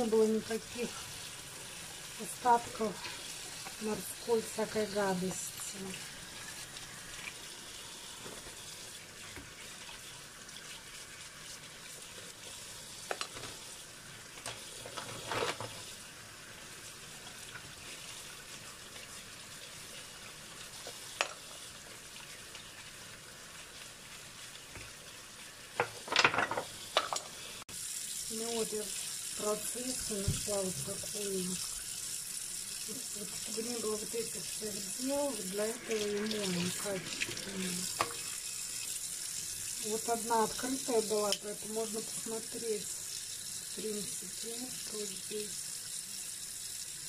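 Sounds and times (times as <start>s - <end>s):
kitchen tap running: 0.0s - 47.0s.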